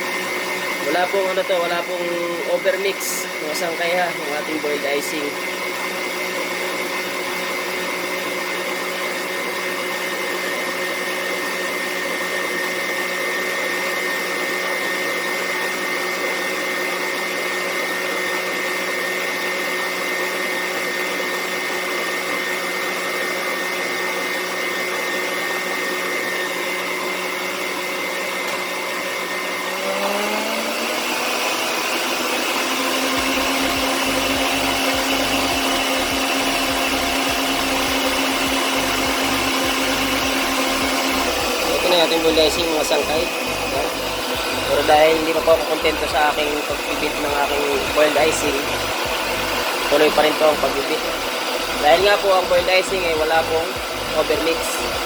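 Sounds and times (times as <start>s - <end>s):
stand mixer motor whine: 0.0s - 55.0s.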